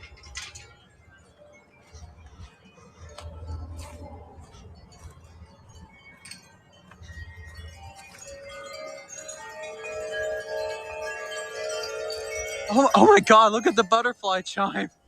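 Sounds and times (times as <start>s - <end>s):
wind rumble: 0.0s - 14.2s
wind chimes ringing: 0.0s - 15.0s.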